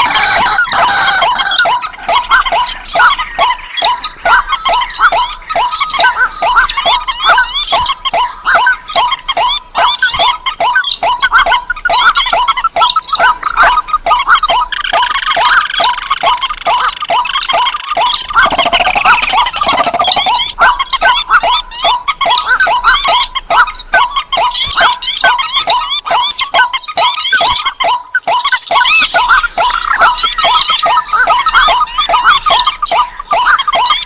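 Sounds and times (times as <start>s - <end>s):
chorus of marsh bird calls: 0.0s - 34.0s
harsh bird chattering: 0.0s - 34.0s.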